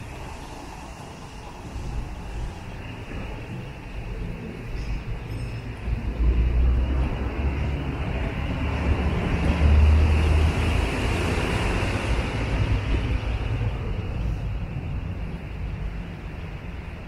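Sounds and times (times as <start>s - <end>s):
street low rumble: 0.0s - 17.0s.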